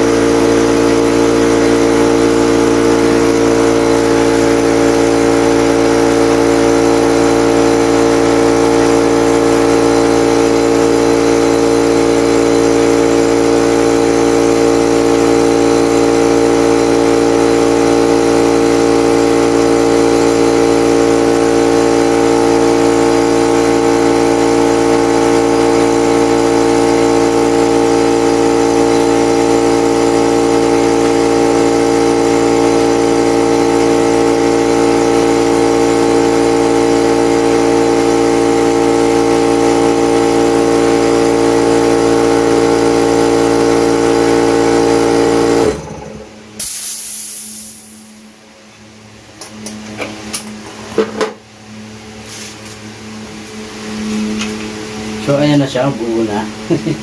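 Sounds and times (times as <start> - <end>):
air compressor humming: 0.0 - 57.0.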